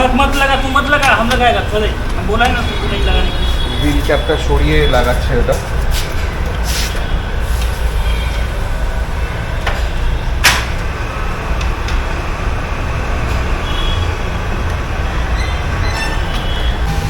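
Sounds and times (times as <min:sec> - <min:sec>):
traffic rumble: 0:00.0 - 0:17.0
workshop noise: 0:00.0 - 0:17.0.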